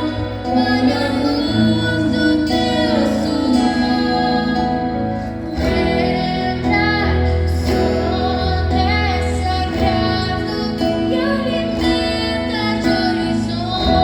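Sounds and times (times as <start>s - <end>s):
sustained bass notes: 0.0s - 14.0s
woman singing with vibrato: 0.0s - 14.0s.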